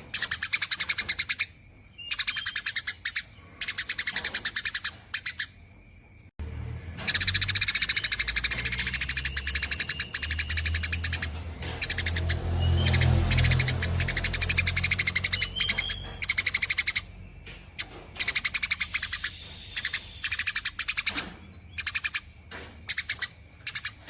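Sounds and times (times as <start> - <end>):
sparrow chattering trills: 0.0 - 6.3, 7.0 - 24.0.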